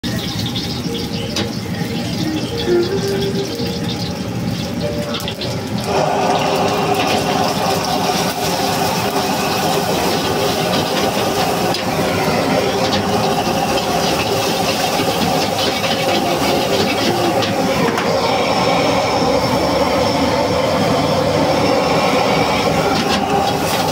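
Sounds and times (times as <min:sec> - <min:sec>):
egg sizzling in hot oil: 0:00.0 - 0:23.9
gas burner flame: 0:00.0 - 0:23.9.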